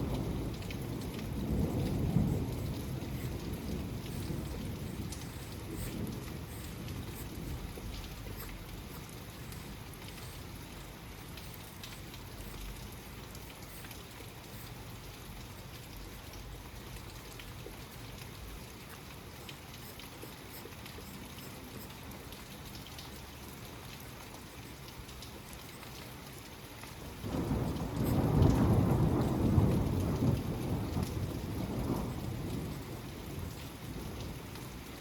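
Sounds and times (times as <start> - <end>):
raindrops ticking: 0.0 - 35.0
steady rain: 0.0 - 35.0.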